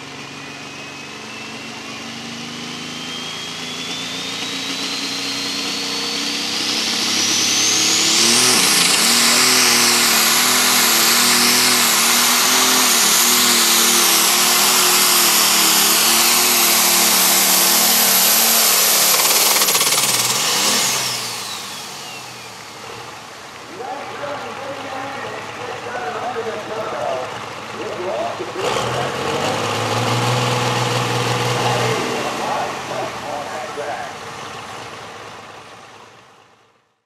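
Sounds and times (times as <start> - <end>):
turbo whine: 0.0 - 35.0
diesel engine under load: 0.0 - 36.8.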